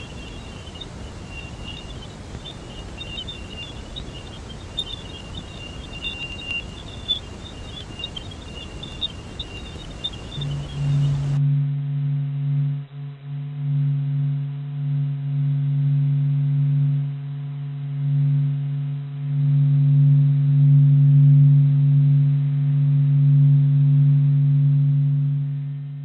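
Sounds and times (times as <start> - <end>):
low electronic drone: 0.0 - 24.9.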